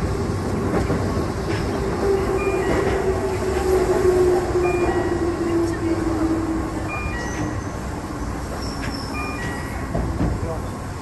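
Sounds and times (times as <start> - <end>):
electric train running noise: 0.0 - 10.6.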